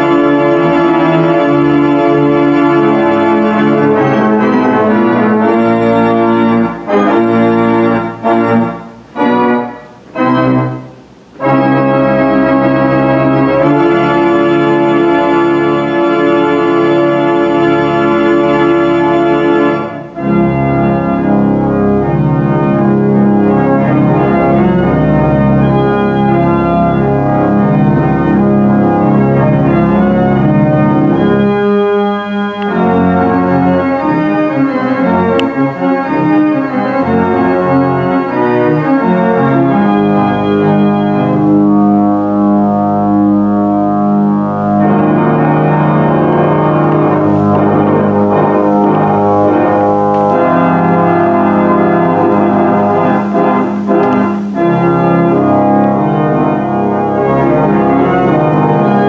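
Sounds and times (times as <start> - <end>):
pipe organ playing: 0.0 - 59.0.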